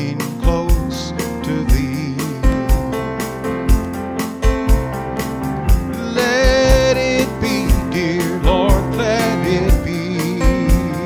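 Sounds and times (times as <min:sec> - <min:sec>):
electronic keyboard gospel tune: 0:00.0 - 0:11.0
steady drum beat: 0:00.0 - 0:11.0.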